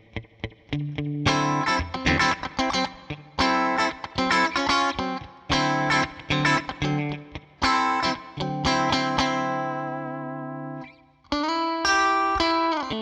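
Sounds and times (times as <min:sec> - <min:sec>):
clean electric guitar chords: 0:00.0 - 0:13.0.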